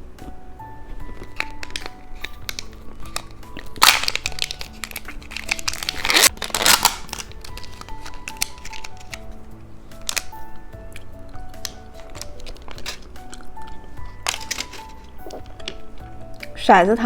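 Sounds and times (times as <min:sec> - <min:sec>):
light background music: 0:00.0 - 0:17.0
plastic wrapper crinkling: 0:00.8 - 0:16.7.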